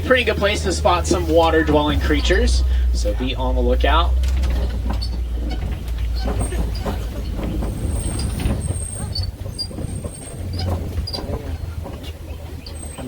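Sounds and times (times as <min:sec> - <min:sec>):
rattling and clattering: 0:00.0 - 0:13.0
vehicle engine and road rumble: 0:00.0 - 0:13.0.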